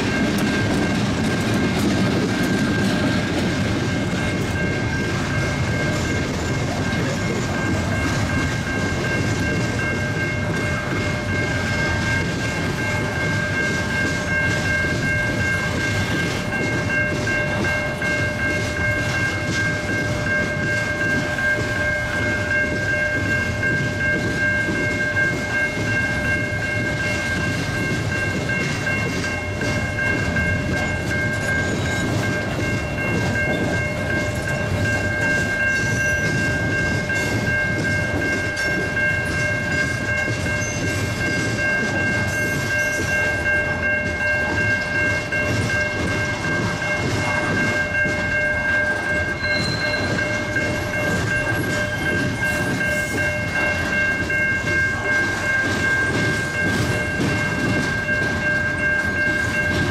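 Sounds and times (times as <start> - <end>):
crossing signal bell ringing: 0.0 - 59.9
freight train wheels rumbling: 0.0 - 59.9.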